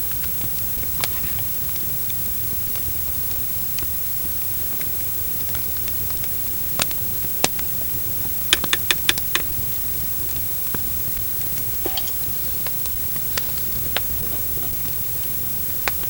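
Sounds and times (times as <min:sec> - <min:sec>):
campfire hissing: 0:00.0 - 0:16.0
fire crackles and pops: 0:00.0 - 0:16.0.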